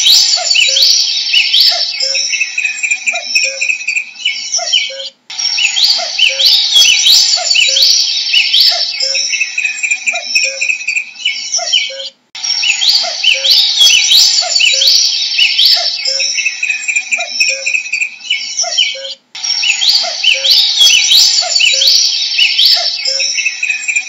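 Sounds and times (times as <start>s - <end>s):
cuckoo calling: 0.0s - 24.0s
songbird chorus: 0.0s - 24.0s.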